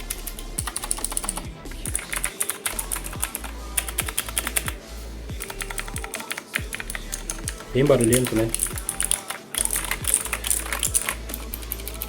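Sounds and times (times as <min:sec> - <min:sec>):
clicky mechanical keyboard typing: 0:00.0 - 0:04.8, 0:05.4 - 0:12.0.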